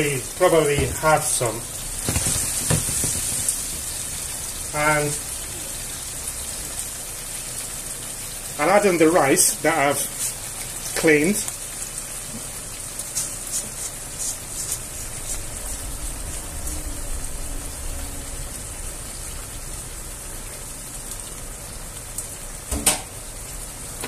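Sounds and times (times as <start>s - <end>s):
sauce sizzling in a frying pan: 0.0s - 24.0s.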